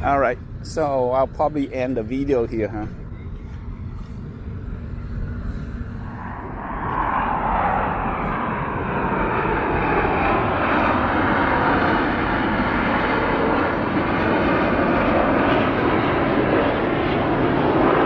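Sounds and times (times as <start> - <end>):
jet aircraft overhead: 0.0 - 18.0.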